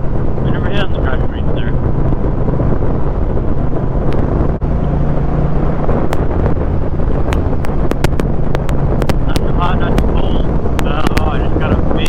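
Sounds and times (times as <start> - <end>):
microphone crackles: 0.0 - 12.0
motorcycle engine running: 0.0 - 12.0
wind rushing over microphone: 0.0 - 12.0.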